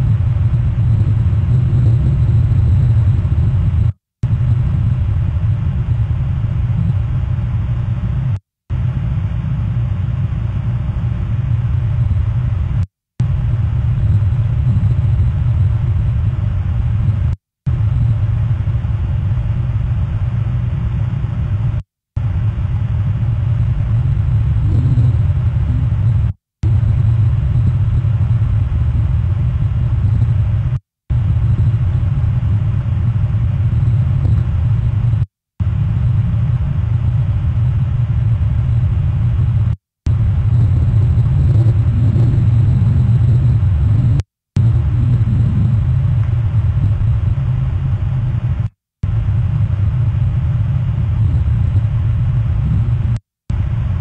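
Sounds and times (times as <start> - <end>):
ship engines low rumble: 0.0 - 54.0.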